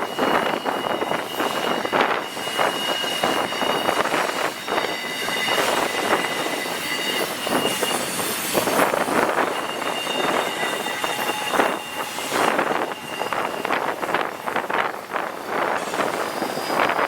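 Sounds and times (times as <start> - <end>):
freight train wheels rumbling on rail: 0.0 - 17.0
high wheel squeal: 0.0 - 17.0.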